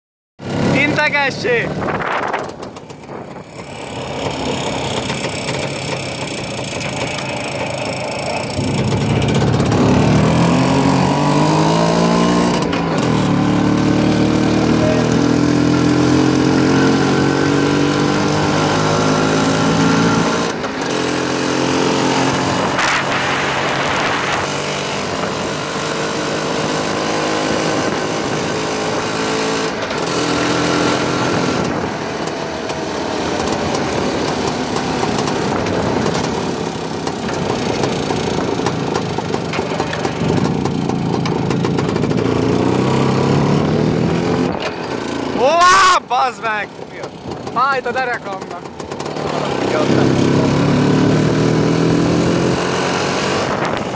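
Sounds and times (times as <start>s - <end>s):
motorcycle engine running: 0.4s - 53.9s.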